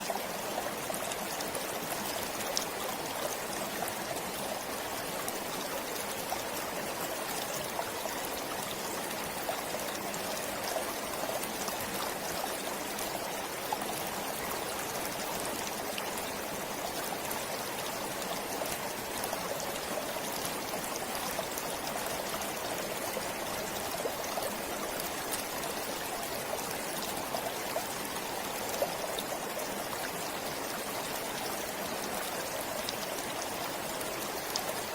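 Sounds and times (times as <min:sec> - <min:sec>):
forest stream flowing: 0:00.0 - 0:34.9
water splashes and drips: 0:00.0 - 0:34.9.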